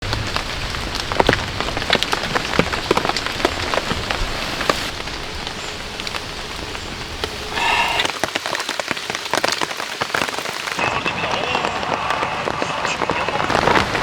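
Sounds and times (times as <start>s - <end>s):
heavy raindrops landing close: 0.0s - 14.0s
steady rain falling: 0.0s - 14.0s.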